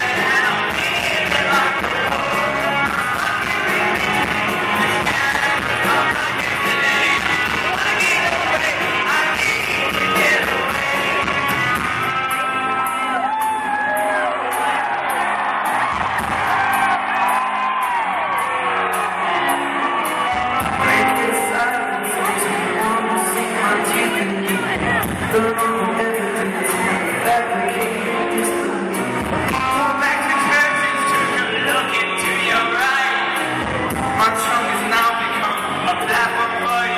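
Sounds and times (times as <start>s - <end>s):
singer singing loudly: 0.0s - 14.8s, 20.2s - 36.9s
live rock band playing: 0.0s - 36.9s.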